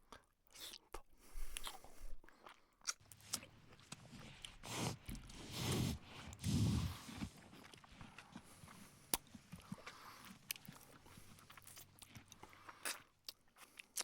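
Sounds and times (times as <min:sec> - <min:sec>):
cats chewing food: 0:00.6 - 0:14.0.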